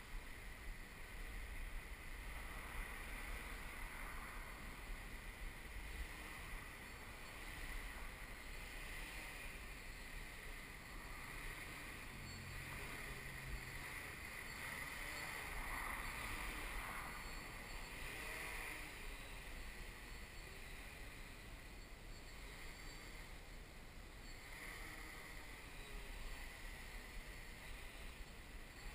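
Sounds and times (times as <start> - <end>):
multirotor drone humming: 0.0 - 28.9
wind rumble on microphone: 0.0 - 28.9.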